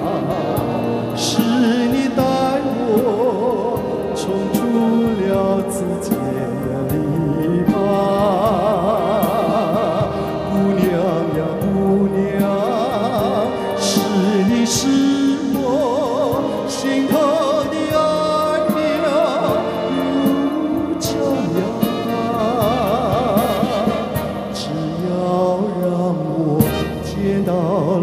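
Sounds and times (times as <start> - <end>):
live band playing: 0.0 - 28.0
man singing pop ballad: 0.0 - 28.0.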